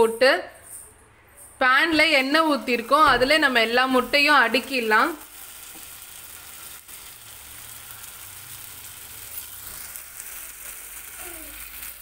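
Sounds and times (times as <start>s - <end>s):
eggs sizzling in hot oil: 2.1s - 12.0s.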